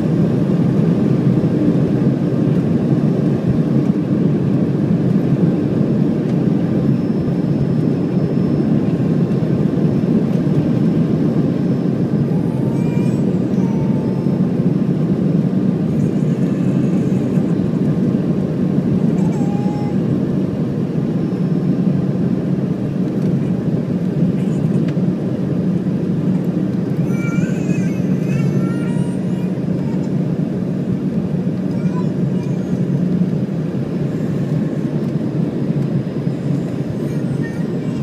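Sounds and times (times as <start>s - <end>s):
jet cabin drone: 0.0s - 38.0s.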